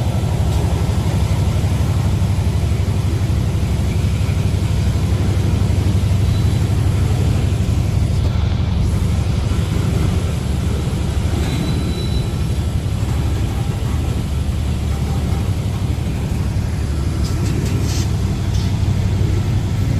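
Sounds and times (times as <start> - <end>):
diesel freight train rumbling: 0.0 - 19.9.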